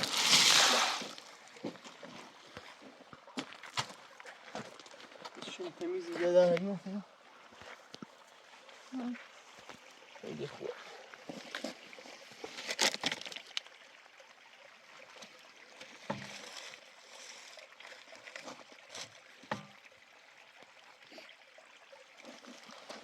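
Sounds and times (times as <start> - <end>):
water sloshing and trickling: 0.0 - 23.0.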